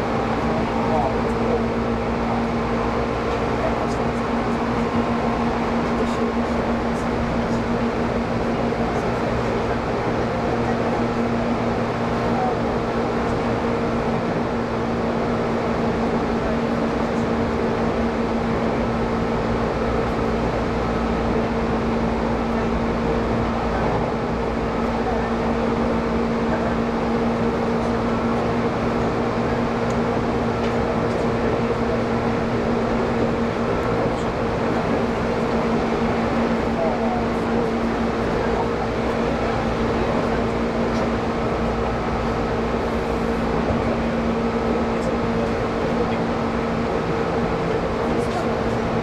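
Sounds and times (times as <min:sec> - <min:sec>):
steady hum: 0:00.0 - 0:49.0
train running noise: 0:00.0 - 0:49.0.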